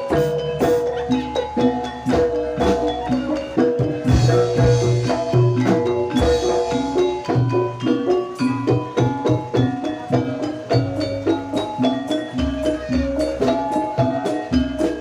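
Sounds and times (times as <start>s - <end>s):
drums: 0.0s - 15.0s
metal-keyed percussion notes: 0.0s - 15.0s.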